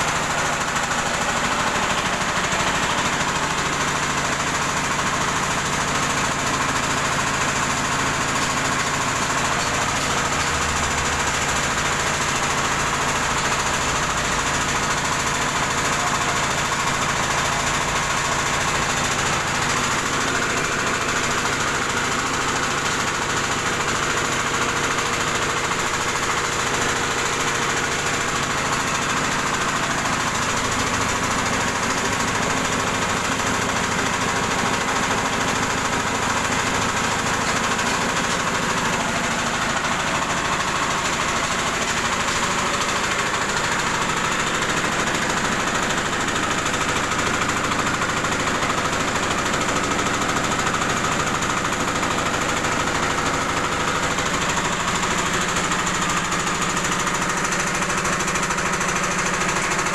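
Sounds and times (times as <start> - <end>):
rice huller running: 0.0 - 59.9
rice pouring through chute: 0.0 - 59.9.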